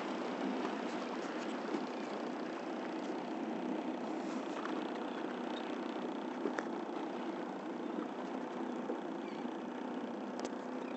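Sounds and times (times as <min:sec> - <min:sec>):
low engine hum: 0:00.0 - 0:10.9.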